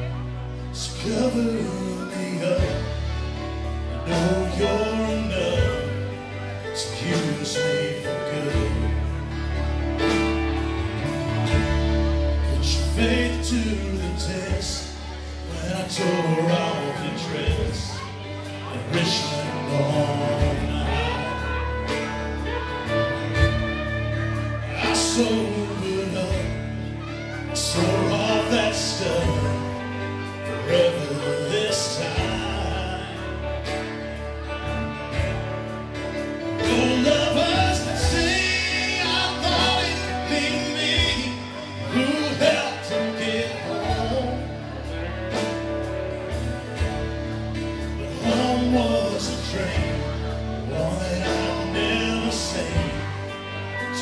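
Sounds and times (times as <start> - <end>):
live band playing: 0.0 - 54.0
male lead singer: 0.0 - 54.0.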